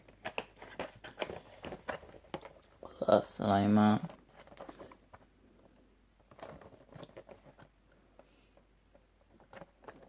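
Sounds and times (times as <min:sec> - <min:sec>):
soft clicks and crackles of handling: 0:00.0 - 0:02.9, 0:04.0 - 0:10.0.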